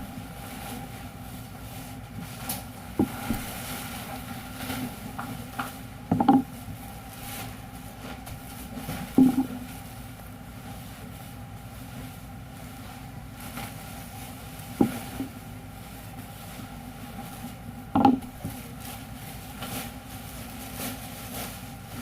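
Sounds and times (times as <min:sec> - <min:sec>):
machine humming with steady tones: 0:00.0 - 0:22.0.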